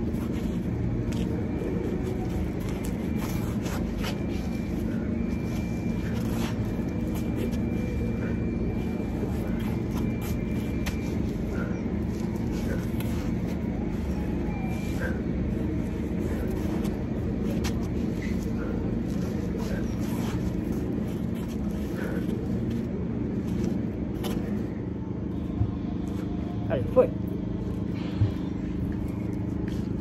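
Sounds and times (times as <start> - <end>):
low rumble of city traffic: 0.0 - 30.0.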